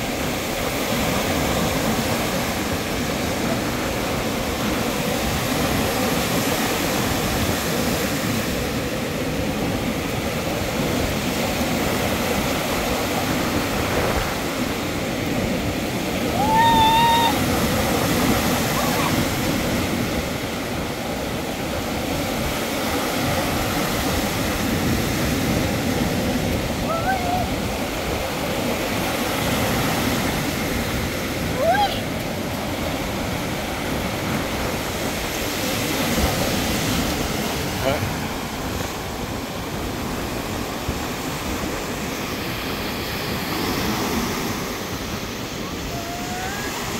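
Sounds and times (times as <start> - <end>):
surf breaking on shore: 0.0 - 46.9
wind buffeting microphone: 0.0 - 46.9.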